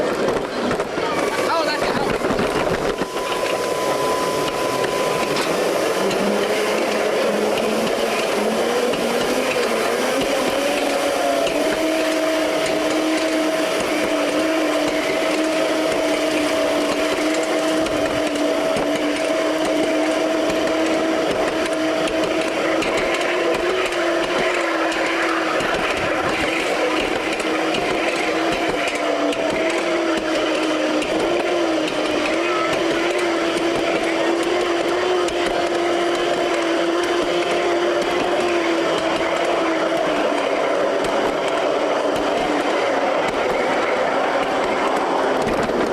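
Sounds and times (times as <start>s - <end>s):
miniature train machine whine: 0.0s - 45.9s
train rattling: 0.0s - 45.9s.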